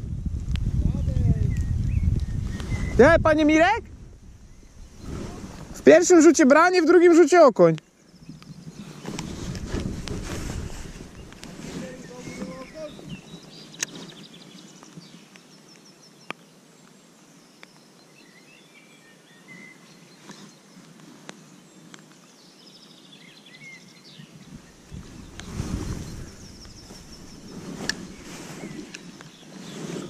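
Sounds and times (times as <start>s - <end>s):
birds chirping and trilling: 0.9s - 3.6s, 4.3s - 30.0s.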